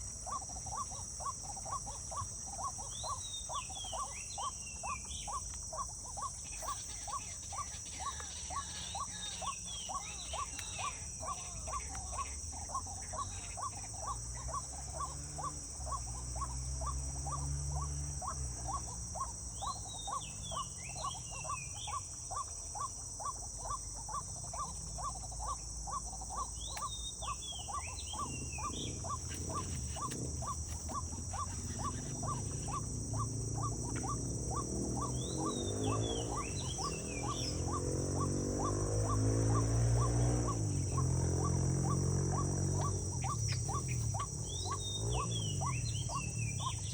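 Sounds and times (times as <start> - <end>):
high insect drone: 0.0 - 46.9
pulsed insect call: 0.0 - 46.9.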